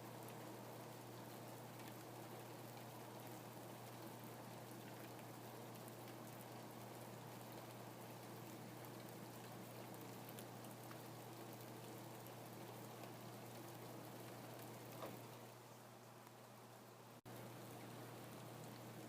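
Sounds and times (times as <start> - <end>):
faint steady rain: 0.0 - 19.0
low steady hum: 0.0 - 19.0.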